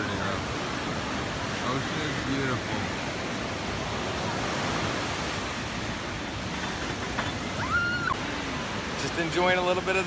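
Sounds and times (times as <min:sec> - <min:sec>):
ocean waves breaking on beach: 0:00.0 - 0:10.0.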